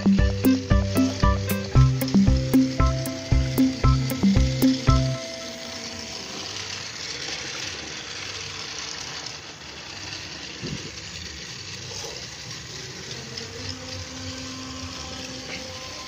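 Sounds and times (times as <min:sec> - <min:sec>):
toy train motor whirring: 0:00.0 - 0:16.0.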